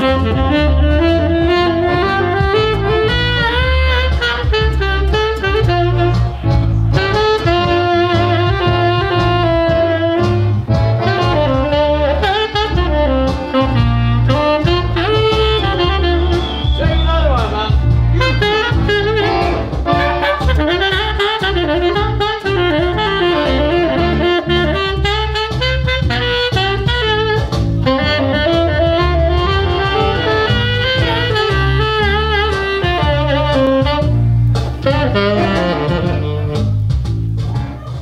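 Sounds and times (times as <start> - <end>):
jazz tenor saxophone with bass and drums: 0.0 - 38.0.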